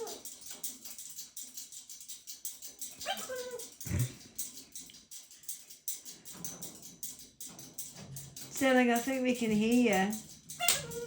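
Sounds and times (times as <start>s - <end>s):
rapid clicking: 0.0s - 11.0s.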